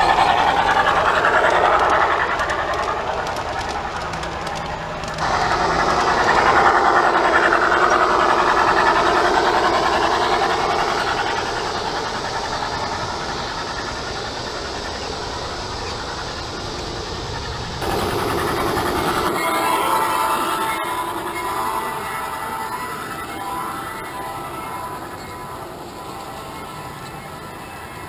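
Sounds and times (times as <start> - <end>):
model train wheels clattering on rails: 0.0 - 28.0.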